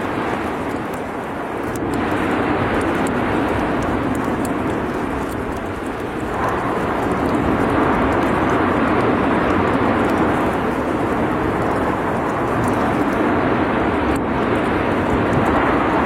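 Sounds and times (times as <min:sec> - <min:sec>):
volcano roaring rumble: 0:00.0 - 0:16.0.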